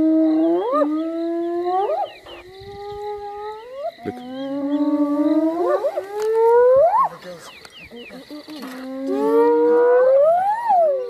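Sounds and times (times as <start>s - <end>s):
animal howling: 0.0s - 7.2s, 8.3s - 11.0s.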